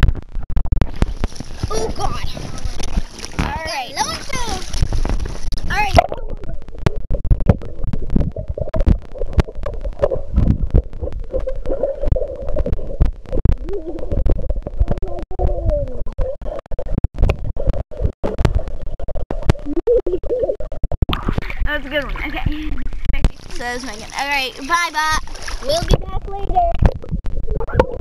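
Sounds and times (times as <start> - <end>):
muffled underwater rumble: 0.0 - 28.0
underwater knocks and clicks: 0.0 - 28.0.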